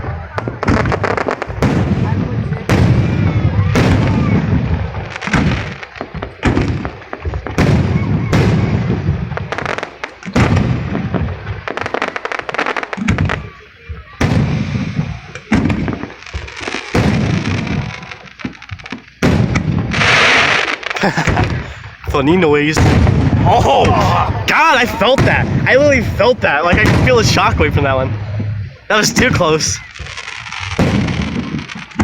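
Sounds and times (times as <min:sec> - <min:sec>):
firework booms: 0:00.0 - 0:32.0
firework crackling: 0:00.0 - 0:32.0.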